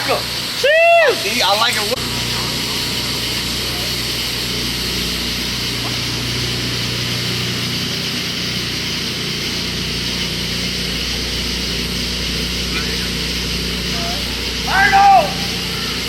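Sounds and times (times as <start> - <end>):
high-pitched hiss: 0.0 - 16.0
low hum: 0.0 - 16.0.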